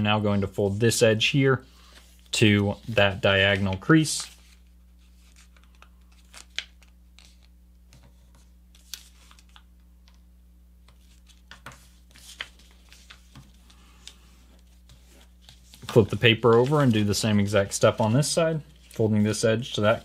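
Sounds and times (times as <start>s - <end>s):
faint steady hum: 0.0s - 20.0s
paper rustling and crinkling: 1.8s - 9.6s, 10.9s - 20.0s.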